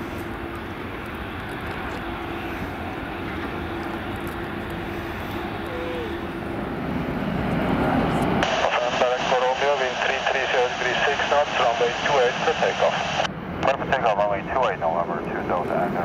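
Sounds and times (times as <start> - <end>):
jet engine rumble and hiss: 0.0 - 16.0.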